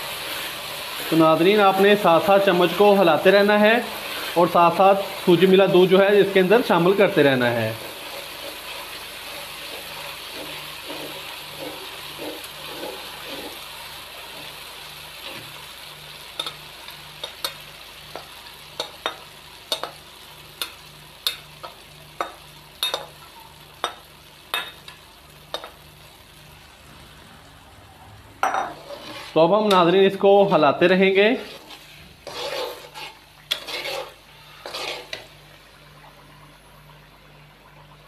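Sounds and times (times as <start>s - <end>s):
semolina sizzling in hot fat: 0.0s - 38.0s.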